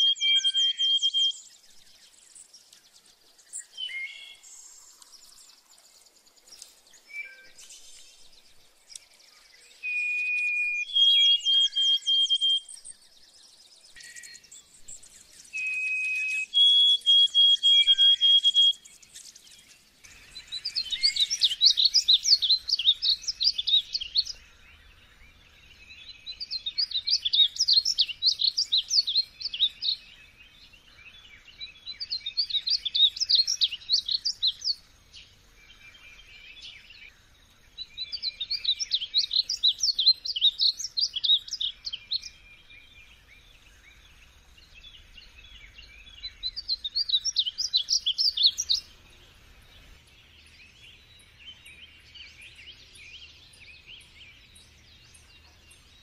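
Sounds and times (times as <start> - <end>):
bird warbling song: 0.0 - 56.0.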